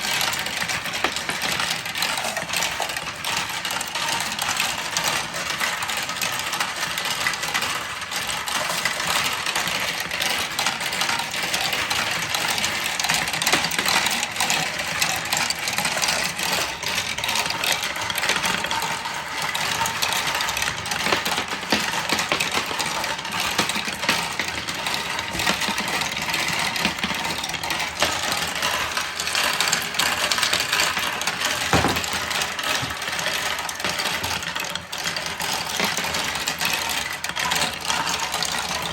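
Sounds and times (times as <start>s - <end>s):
marbles rolling down wooden run: 0.0s - 38.9s.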